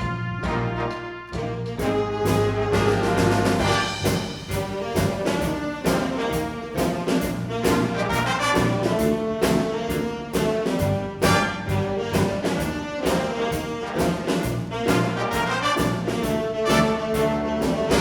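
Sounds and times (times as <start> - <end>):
drum hits: 0.0 - 18.0
jazz big band playing: 0.0 - 18.0.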